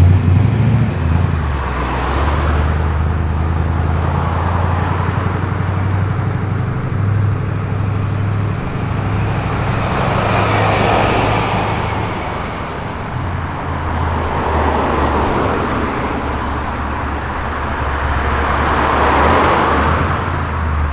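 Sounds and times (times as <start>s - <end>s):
car engine rumbling: 0.0s - 20.9s.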